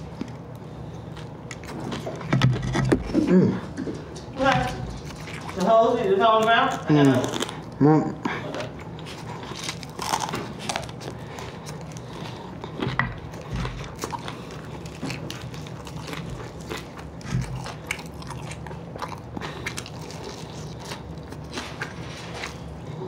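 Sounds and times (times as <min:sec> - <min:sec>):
crunchy chewing: 0:00.0 - 0:23.0.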